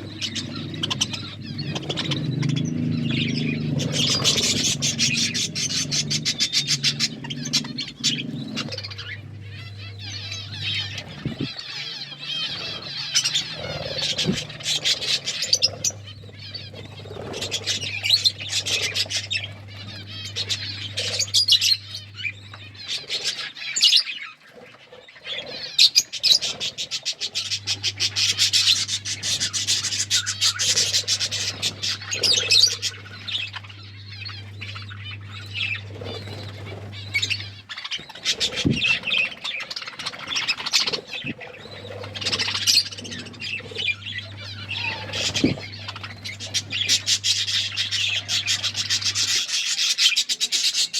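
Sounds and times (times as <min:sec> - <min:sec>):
budgerigars chattering and chirping: 0:00.0 - 0:50.9
low steady hum: 0:00.0 - 0:50.9.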